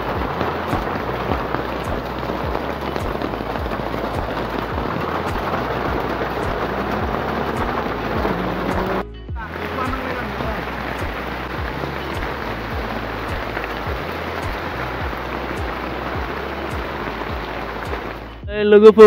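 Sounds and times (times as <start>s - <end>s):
heavy rain on a roof: 0.0s - 18.4s.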